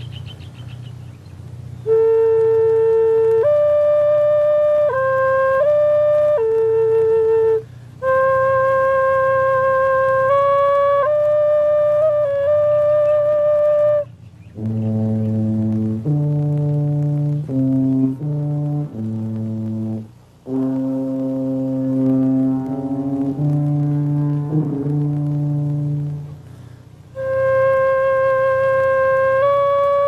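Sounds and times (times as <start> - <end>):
deep horn-like nose flute: 1.8 - 30.0
nose flute high note: 1.8 - 30.0.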